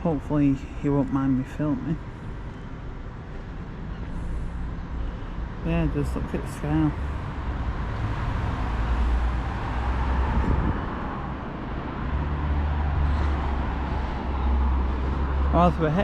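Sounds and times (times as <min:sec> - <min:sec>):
low traffic rumble: 0:00.0 - 0:16.0
road traffic rushing: 0:00.0 - 0:16.0.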